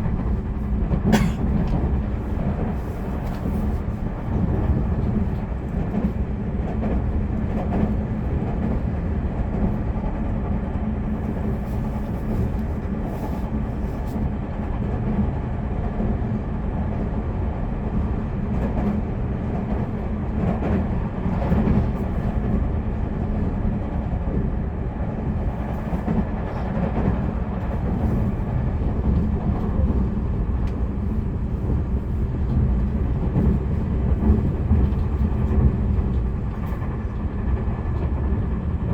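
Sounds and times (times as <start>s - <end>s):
train rattles: 0.0s - 38.9s
train wheels rumbling on rail: 0.0s - 38.9s.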